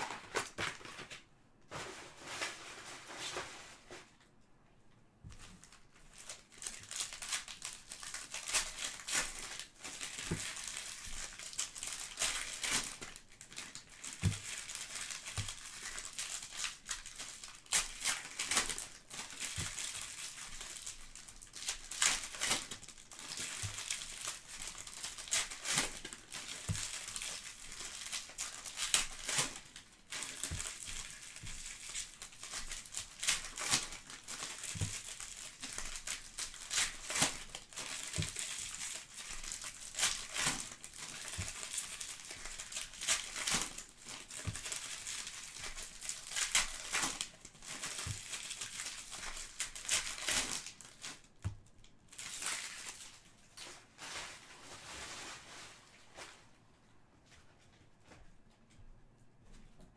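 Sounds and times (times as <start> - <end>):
foil wrappers crinkling and tearing: 0.0 - 1.2, 5.4 - 56.3.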